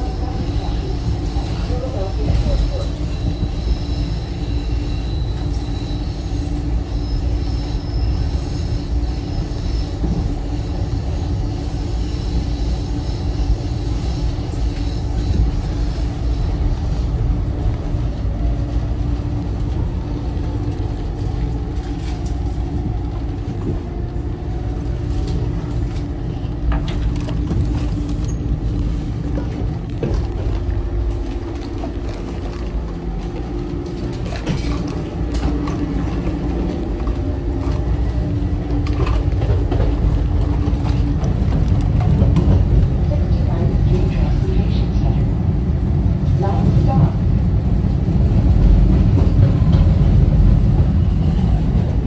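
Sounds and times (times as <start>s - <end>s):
train running rumble: 0.0s - 52.0s.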